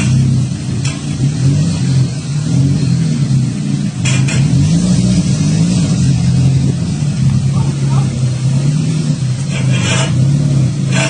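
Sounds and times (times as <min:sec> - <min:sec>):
van engine running: 0:00.0 - 0:11.0.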